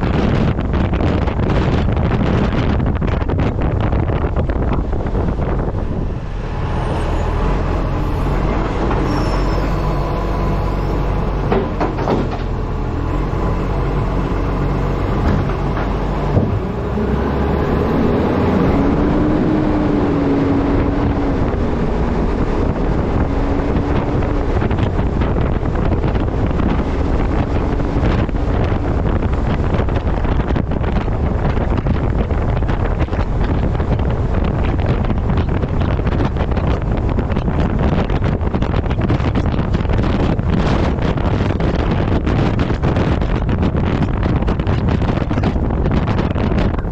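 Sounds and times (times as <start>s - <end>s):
truck rumbling on road: 0.0s - 46.9s
wind rushing over camera: 0.0s - 46.9s.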